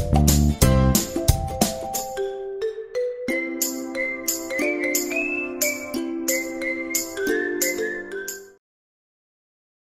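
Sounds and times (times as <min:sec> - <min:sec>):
background music with struck notes: 0:00.0 - 0:08.6.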